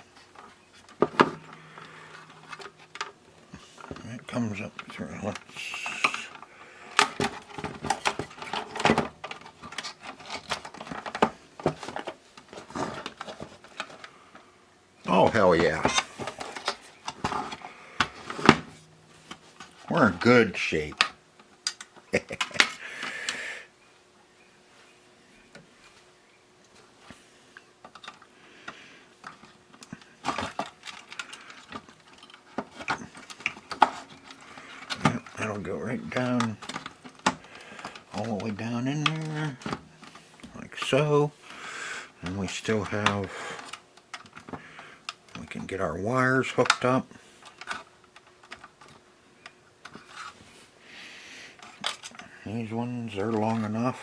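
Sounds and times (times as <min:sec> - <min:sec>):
clicks and rattles of parts: 0:00.0 - 0:14.4, 0:15.0 - 0:23.4, 0:26.6 - 0:41.6, 0:42.2 - 0:50.6, 0:51.5 - 0:54.0.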